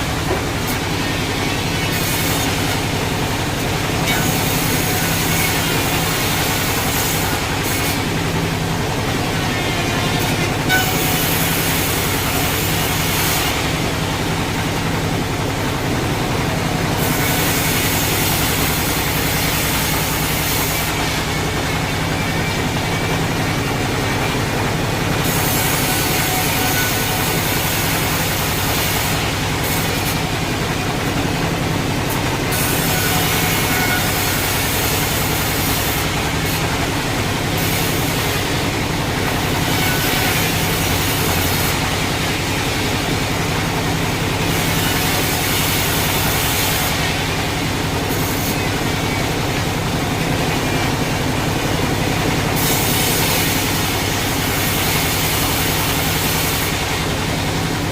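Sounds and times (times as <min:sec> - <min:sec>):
sawmill machinery humming: 0:00.0 - 0:57.9.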